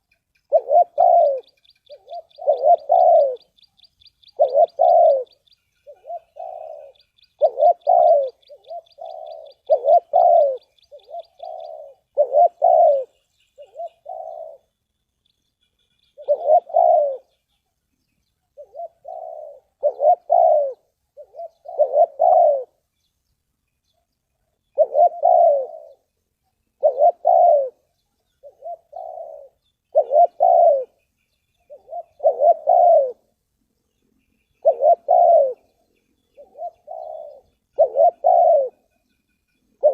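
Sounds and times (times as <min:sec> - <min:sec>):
dove cooing: 0:00.0 - 0:14.8, 0:15.7 - 0:17.6, 0:18.4 - 0:22.9, 0:24.7 - 0:33.4, 0:34.0 - 0:39.9.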